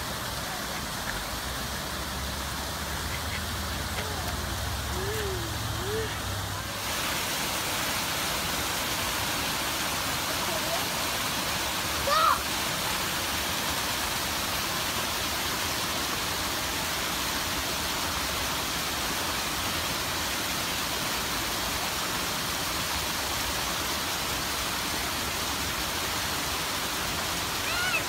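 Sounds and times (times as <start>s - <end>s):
waterfall rushing into stream: 0.0s - 28.0s.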